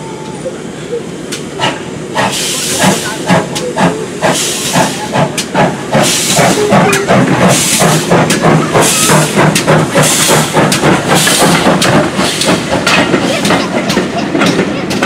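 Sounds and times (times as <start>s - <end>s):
steam locomotive exhaust beats: 0.0s - 15.0s
steam hissing: 1.4s - 14.2s.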